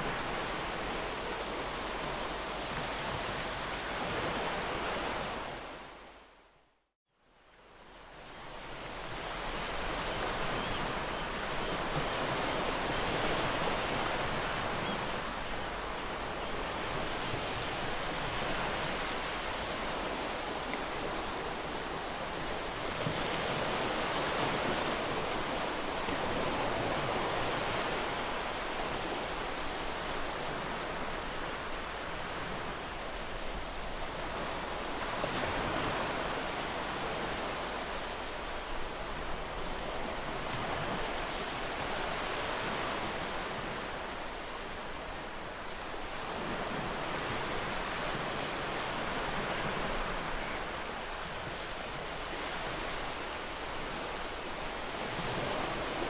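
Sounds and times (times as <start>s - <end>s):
ocean surf washing on shore: 0.0s - 6.0s, 8.0s - 56.0s.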